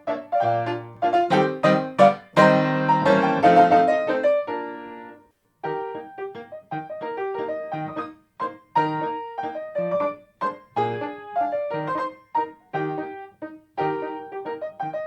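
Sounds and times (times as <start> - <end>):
grand piano playing waltz: 0.0 - 15.0.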